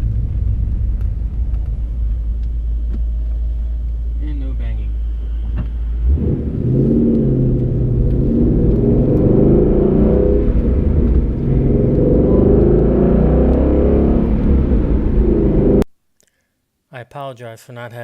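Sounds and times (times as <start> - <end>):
car engine running: 0.0 - 15.8
road rumble: 0.0 - 15.9.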